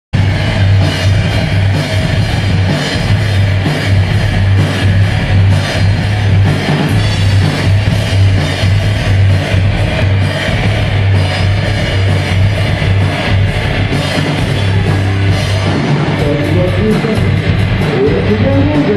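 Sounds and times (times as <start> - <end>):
bass guitar: 0.1 - 18.9
drum kit: 0.1 - 18.9
electric guitar: 0.2 - 18.9.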